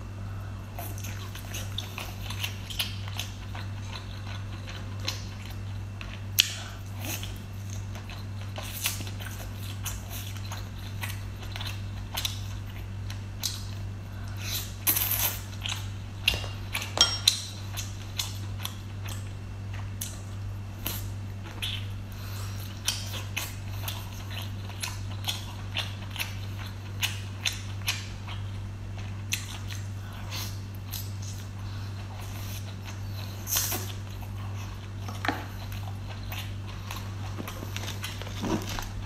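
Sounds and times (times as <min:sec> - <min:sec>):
low steady hum: 0:00.0 - 0:39.0
wet biting and chewing: 0:00.8 - 0:39.0.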